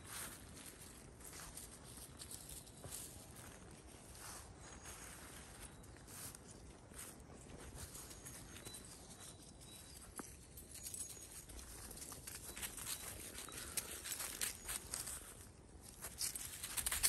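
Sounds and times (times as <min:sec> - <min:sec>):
footsteps in dry leaves: 0:00.0 - 0:17.0
puppy paws rustling through leaves: 0:00.0 - 0:17.0.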